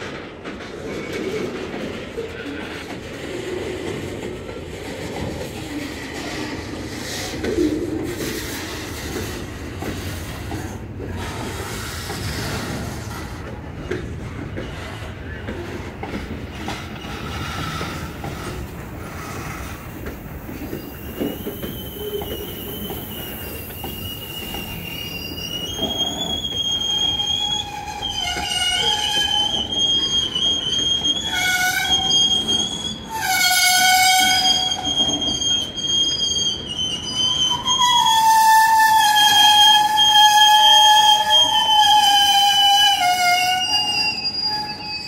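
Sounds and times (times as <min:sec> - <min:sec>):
train rumble: 0:00.0 - 0:45.0
train wheels squealing: 0:06.1 - 0:45.0.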